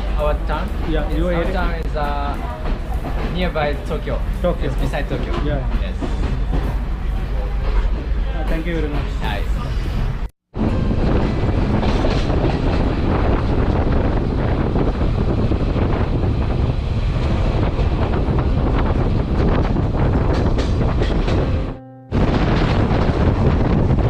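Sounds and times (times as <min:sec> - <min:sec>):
wheels clattering on rails: 0:00.0 - 0:21.6
train rumbling on track: 0:00.0 - 0:24.0.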